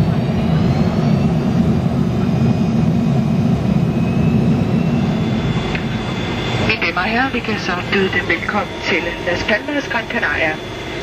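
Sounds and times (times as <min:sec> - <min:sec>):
high engine whine: 0:00.0 - 0:11.0
jet engines and aircraft rumble: 0:00.0 - 0:11.0.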